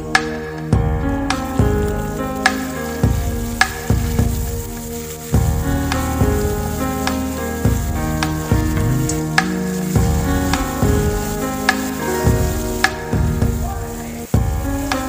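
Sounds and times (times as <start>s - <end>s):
instrumental background music: 0.0s - 15.0s
vegetables sizzling in oil: 1.4s - 15.0s
wooden spatula stirring: 1.4s - 15.0s.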